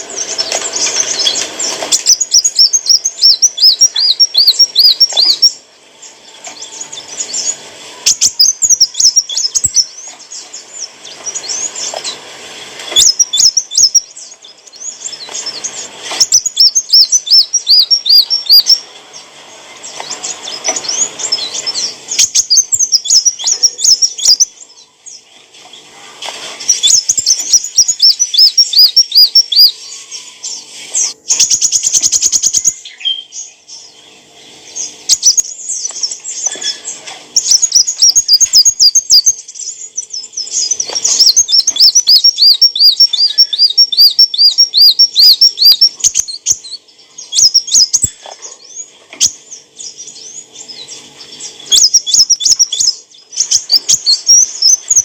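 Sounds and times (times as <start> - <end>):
bird singing rapid looping notes: 0.0 - 12.3, 12.9 - 25.8, 26.6 - 55.0.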